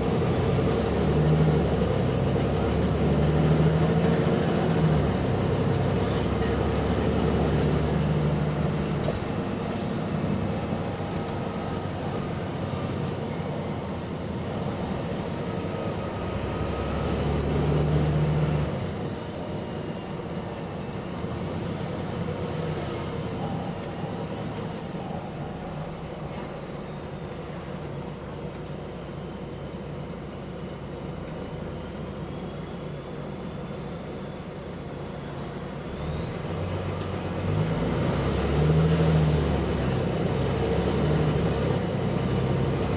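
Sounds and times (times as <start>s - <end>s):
bus diesel engine: 0.0s - 42.9s.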